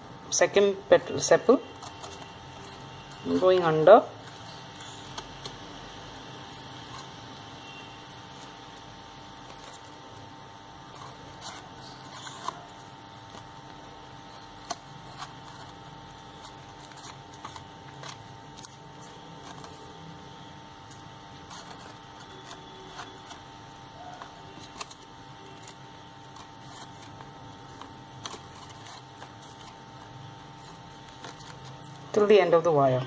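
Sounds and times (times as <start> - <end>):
faint steady hum: 0.0 - 33.0
paper and tape rustling: 1.6 - 5.7, 6.5 - 32.6.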